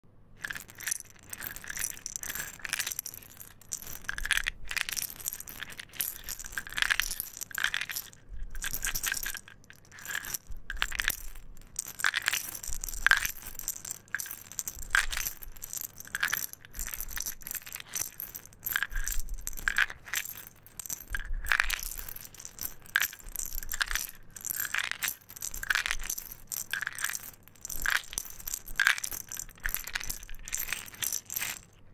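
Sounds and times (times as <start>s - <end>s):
hard sweets rattling in a glass jar: 0.4s - 31.8s.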